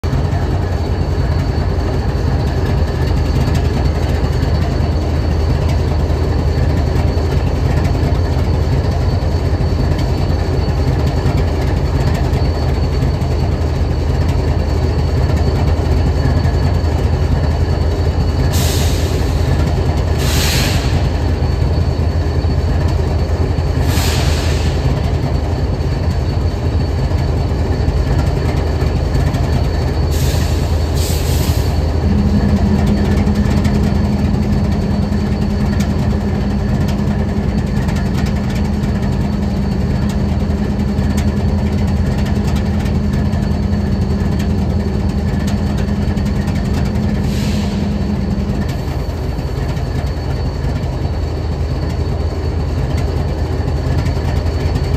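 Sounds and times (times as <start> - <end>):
diesel locomotive idling: 0.0 - 54.9.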